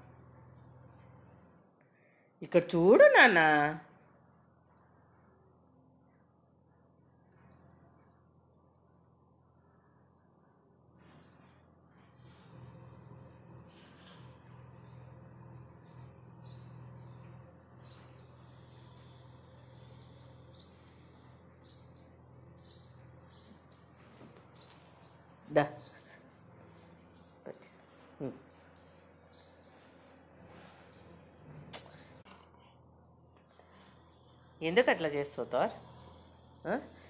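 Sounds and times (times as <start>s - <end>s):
faint low hum: 0.0s - 37.0s
birds chirping: 7.2s - 37.0s.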